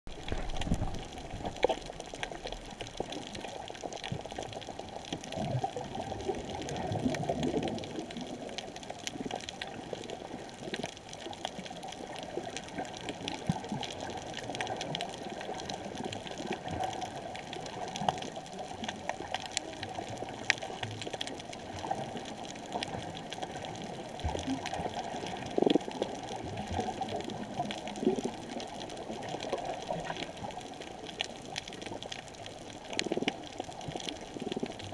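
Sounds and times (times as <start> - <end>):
clicks and crackles: 0.1 - 34.9
underwater rush of water: 0.1 - 34.9.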